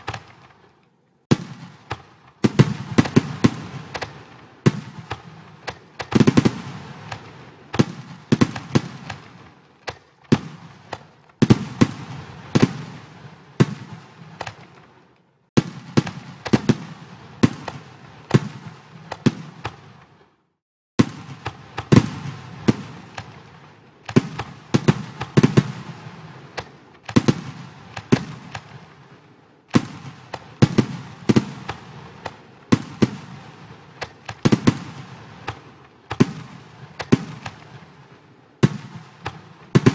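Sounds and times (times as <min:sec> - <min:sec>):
firework bangs with crackle: 0:00.0 - 0:20.4, 0:21.0 - 0:39.9.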